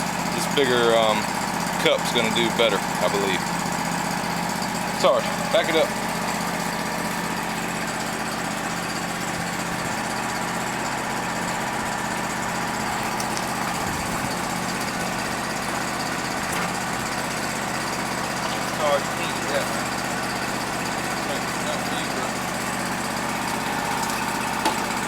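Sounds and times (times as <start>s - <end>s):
steady motor hum: 0.0s - 25.0s.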